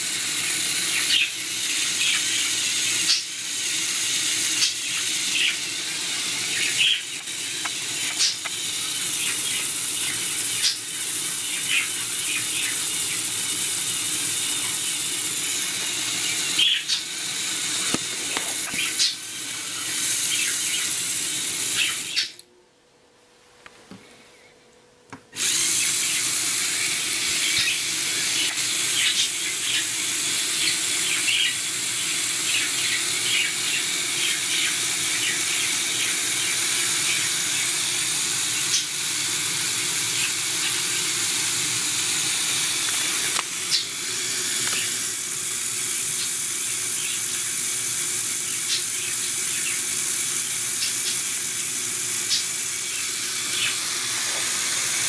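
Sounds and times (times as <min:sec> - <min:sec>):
gear and track clicks: 0:00.0 - 0:22.4, 0:25.3 - 0:55.0
robot motors whirring: 0:00.0 - 0:22.4, 0:25.3 - 0:55.0.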